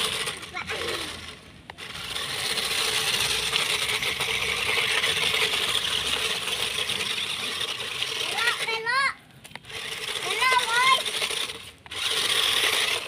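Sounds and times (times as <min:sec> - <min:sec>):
small electric motors whirring: 0:00.0 - 0:13.0
wheels crunching on gravel: 0:00.0 - 0:13.0.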